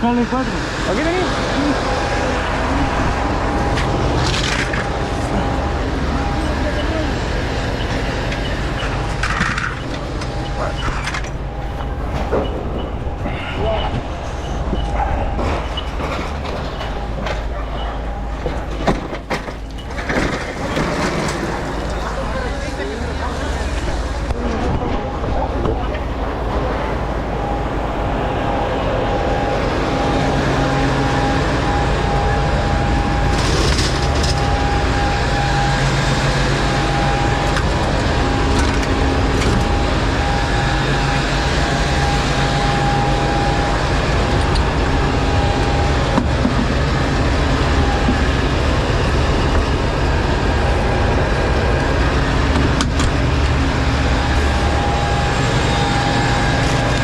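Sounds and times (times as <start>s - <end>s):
fire engine motor running: 0.0s - 57.0s
whine: 0.0s - 57.0s.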